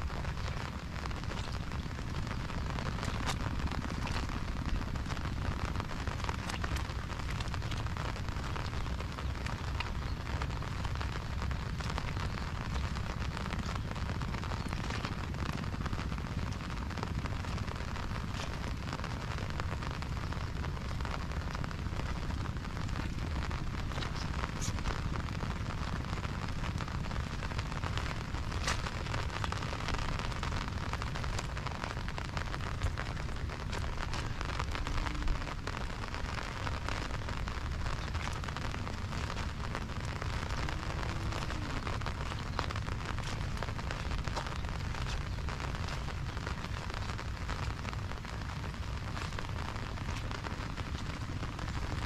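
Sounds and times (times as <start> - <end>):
low rumble: 0.0 - 52.0
sharp ticks of close raindrops: 0.0 - 52.0
steady rain: 0.0 - 52.0.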